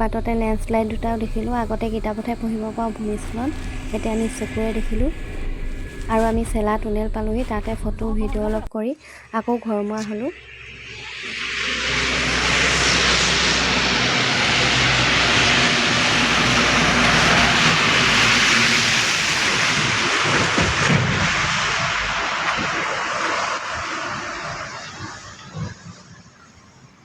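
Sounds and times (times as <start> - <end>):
vehicle rushing roar: 0.0 - 8.5, 10.3 - 26.4
low engine hum: 0.0 - 8.7, 9.5 - 26.3.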